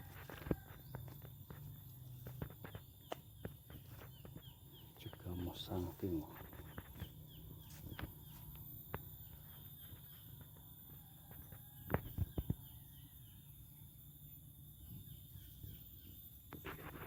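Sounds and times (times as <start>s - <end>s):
insect hum: 0.0s - 17.0s.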